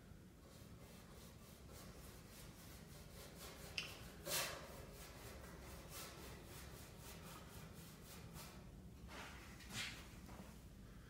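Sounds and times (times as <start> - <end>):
paintbrush swishing strokes: 0.4 - 10.6.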